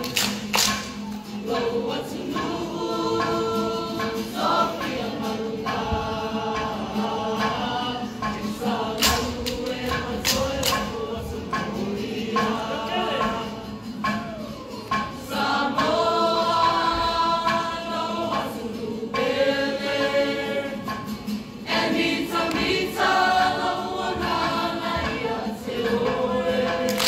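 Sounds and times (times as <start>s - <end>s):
group singing in chorus: 0.0s - 27.0s.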